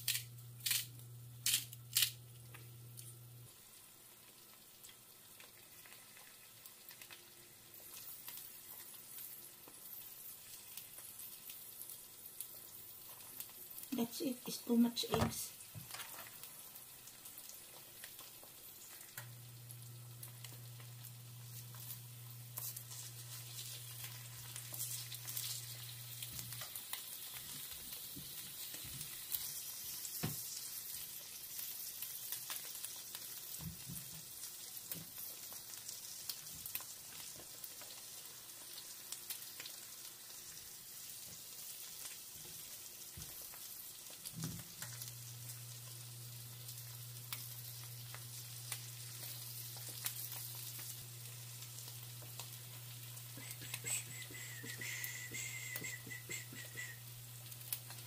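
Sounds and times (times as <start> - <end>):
eggs sizzling in a pan: 0.0 - 58.0.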